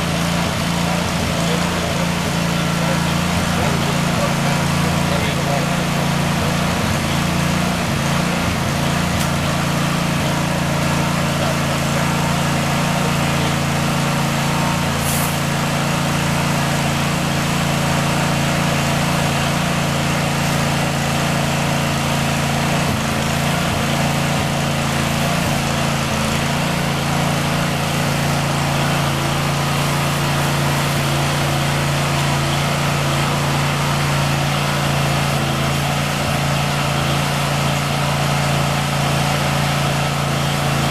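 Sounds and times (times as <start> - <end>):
small gas engine running: 0.0 - 40.9
high-pressure water spray hiss: 5.8 - 40.9.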